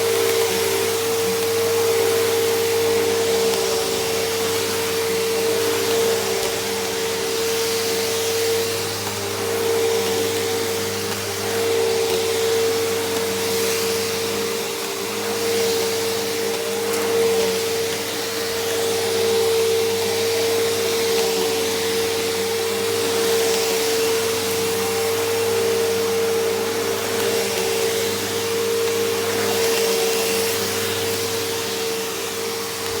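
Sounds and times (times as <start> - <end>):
upright vacuum cleaner running: 0.0 - 33.0.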